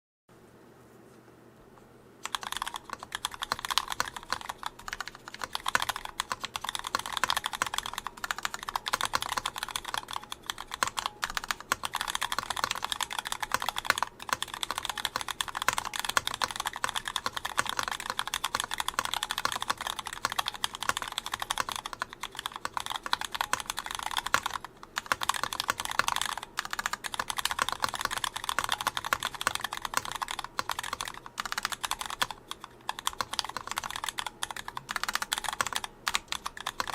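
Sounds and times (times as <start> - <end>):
mechanical keyboard typing: 2.2 - 36.9.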